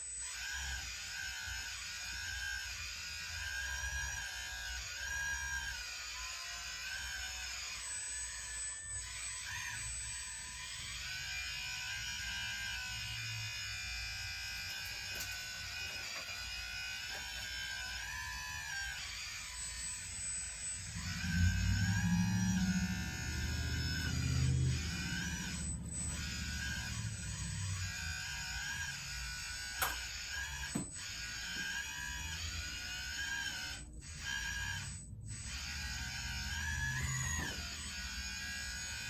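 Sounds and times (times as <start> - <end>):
small electric gear motors whining: 0.0 - 39.0.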